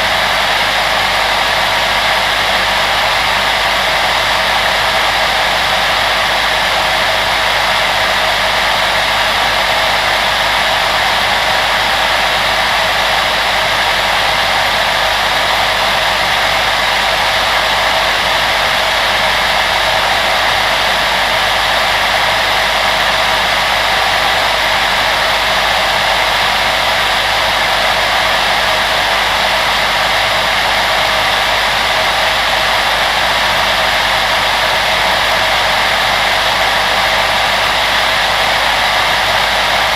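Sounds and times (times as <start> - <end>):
electric blower motor running: 0.0 - 39.9.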